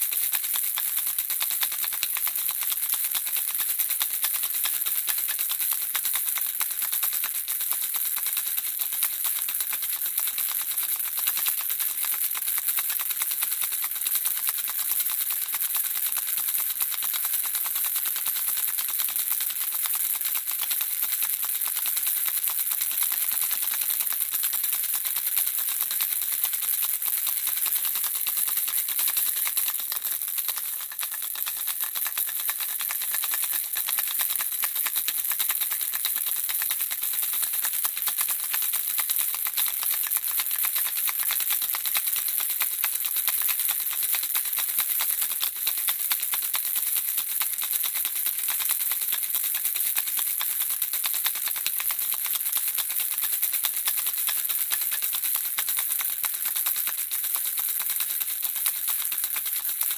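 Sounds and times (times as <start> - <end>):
baby rattle shaken: 0.0 - 59.9.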